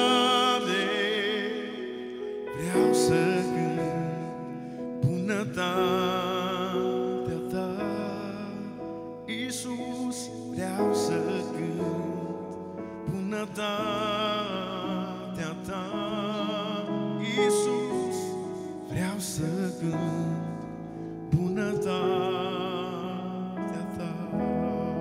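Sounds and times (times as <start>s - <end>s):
man singing with vibrato: 0.0s - 25.0s
sustained keyboard chords: 0.0s - 25.0s.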